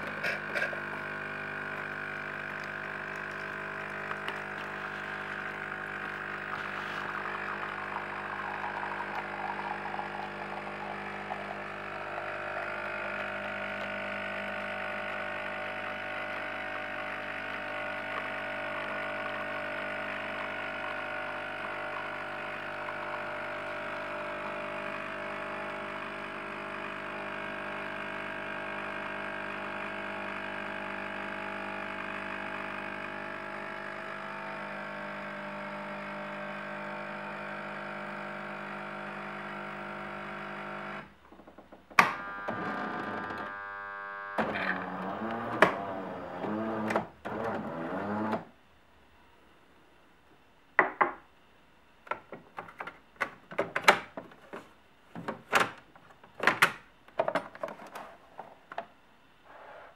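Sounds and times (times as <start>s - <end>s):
coffee machine pump humming: 0.0s - 48.6s.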